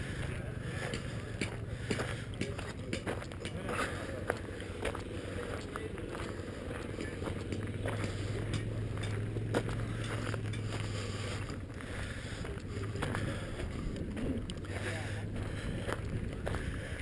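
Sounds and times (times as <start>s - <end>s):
outdoor rumble: 0.0s - 17.0s
steady low hum: 0.0s - 17.0s.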